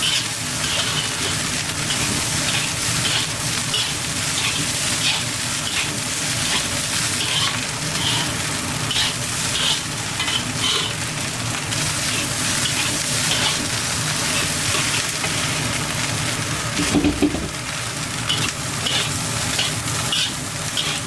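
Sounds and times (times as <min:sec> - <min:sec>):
scraping in a pan: 0:00.0 - 0:11.0, 0:11.7 - 0:15.4, 0:18.3 - 0:21.0
rice sizzling in a hot pan: 0:00.0 - 0:21.0.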